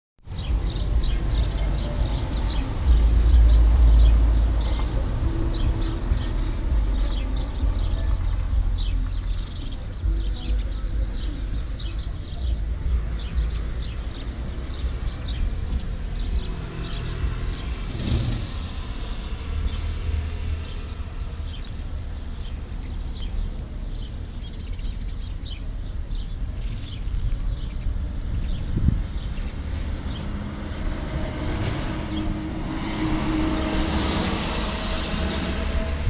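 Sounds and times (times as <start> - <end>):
steady low rumble: 0.2 - 36.0
small birds chirping: 0.3 - 33.1.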